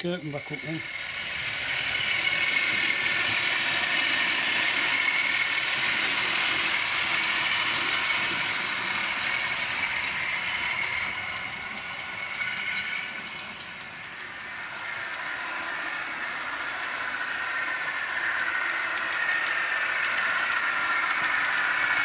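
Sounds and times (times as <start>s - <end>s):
model train motor whine: 0.0s - 22.0s
wheels rattling on rail: 0.0s - 22.0s.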